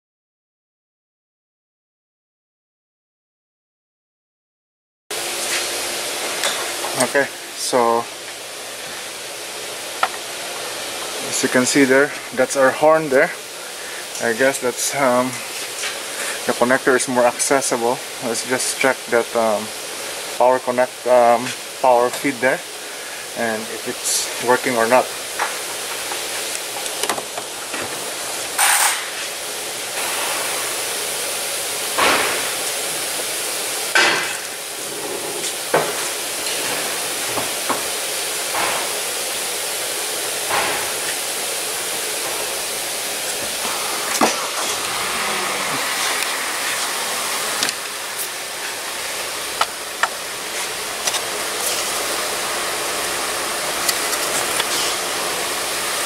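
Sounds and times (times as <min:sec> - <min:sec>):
steady hiss: 0:05.2 - 0:56.0.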